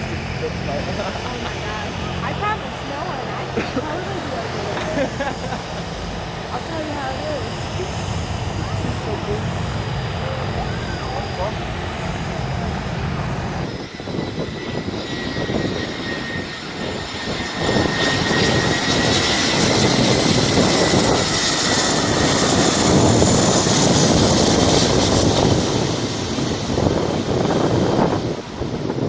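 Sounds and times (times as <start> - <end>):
jet engines rushing: 0.0 - 29.0.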